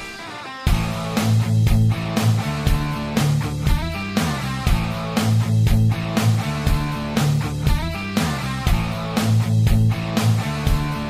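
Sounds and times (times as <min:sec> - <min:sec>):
rock music with guitar and drums: 0:00.0 - 0:11.0.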